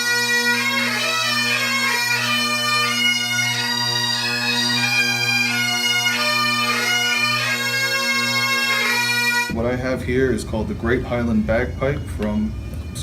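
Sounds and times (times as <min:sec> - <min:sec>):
bagpipes playing: 0:00.0 - 0:13.0.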